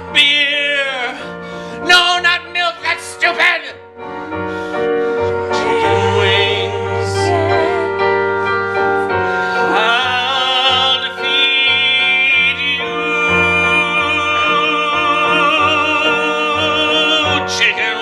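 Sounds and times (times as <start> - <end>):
keyboard chords: 0.0 - 18.0
person singing with vibrato: 0.0 - 18.0.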